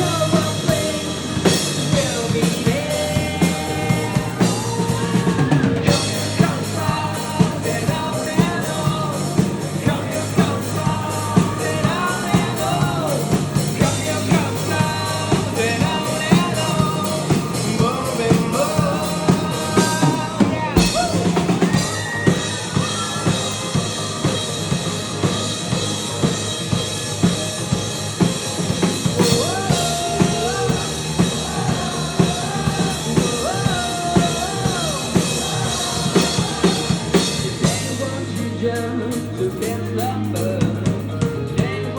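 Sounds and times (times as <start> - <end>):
drum kit beat: 0.0 - 41.9
rock band playing: 0.0 - 41.9.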